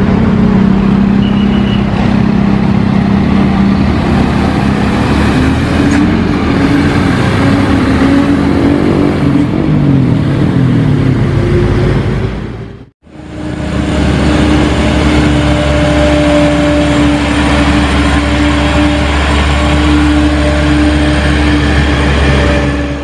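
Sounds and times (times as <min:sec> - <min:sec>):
diesel truck engine pulling uphill: 0:00.0 - 0:23.0.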